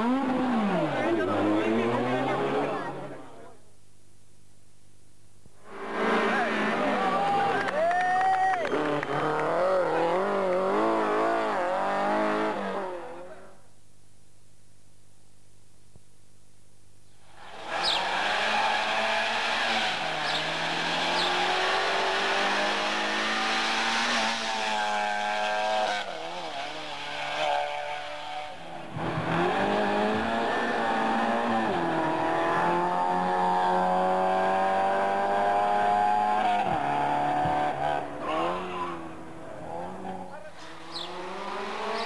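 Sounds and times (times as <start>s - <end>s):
race car engine revving: 0.0s - 3.3s, 5.6s - 7.8s, 8.6s - 13.3s, 17.4s - 42.0s.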